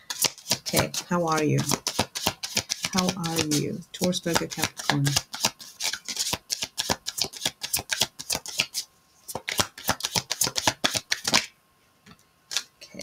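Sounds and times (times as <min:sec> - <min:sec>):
cards being shuffled: 0:00.1 - 0:11.5.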